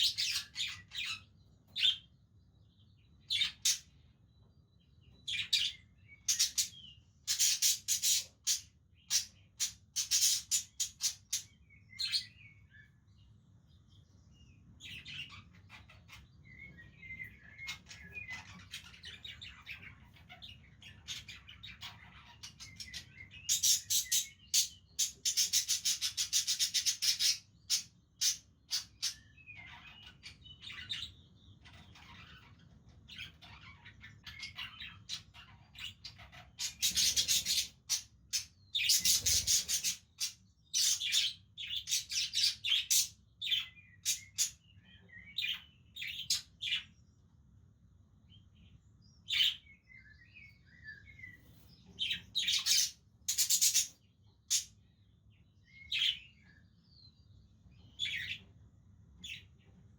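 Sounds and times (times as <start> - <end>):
budgerigars chirping and chattering: 0.0 - 47.0, 48.3 - 59.8.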